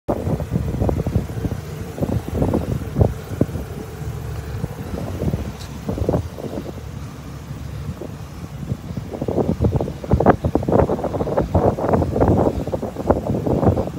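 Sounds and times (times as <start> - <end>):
wind buffeting microphone: 0.1 - 13.9.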